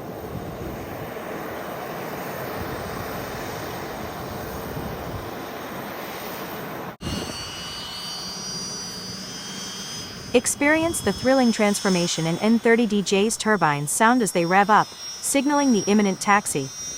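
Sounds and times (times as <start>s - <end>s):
high-pitched turbine whine: 0.0s - 16.9s
jet engines rushing: 0.0s - 16.9s.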